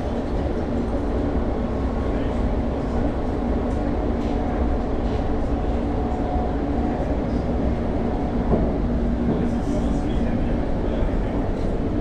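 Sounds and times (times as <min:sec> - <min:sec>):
train hum: 0:00.0 - 0:12.0
train rumbling on track: 0:00.0 - 0:12.0.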